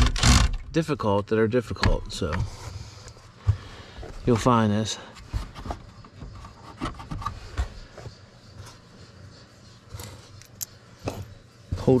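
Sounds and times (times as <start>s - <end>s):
rubbing and scraping on plastic: 2.2s - 12.0s.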